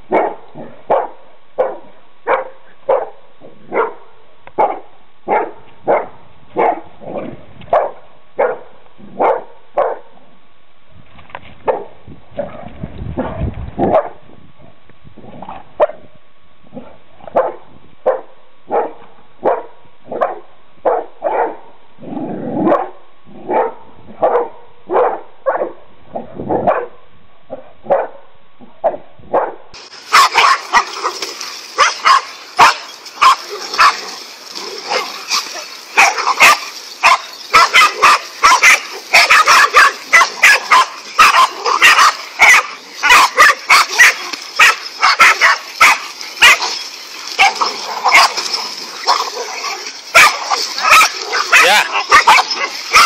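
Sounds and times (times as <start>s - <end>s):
dogs barking: 0.1s - 10.2s, 11.6s - 12.5s, 13.2s - 14.2s, 16.8s - 21.7s, 22.6s - 53.0s.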